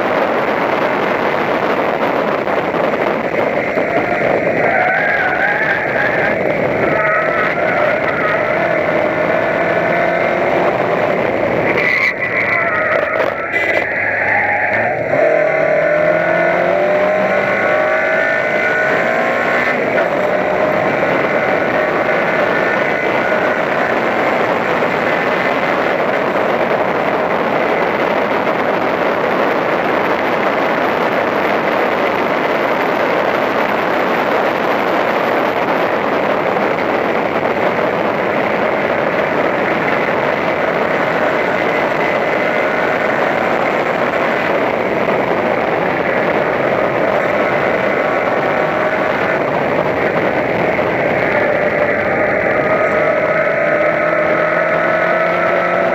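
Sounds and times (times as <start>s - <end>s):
race car engine at full throttle: 0.0s - 55.9s
wind and road noise: 0.0s - 55.9s.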